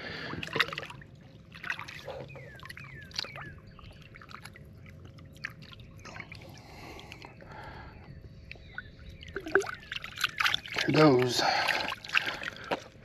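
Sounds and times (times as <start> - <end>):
water lapping and sloshing: 0.0 - 13.0.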